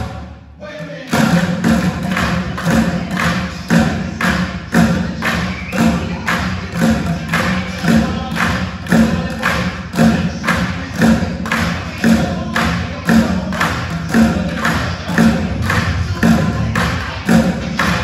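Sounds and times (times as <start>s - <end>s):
drumming on plastic buckets: 0.8s - 18.0s.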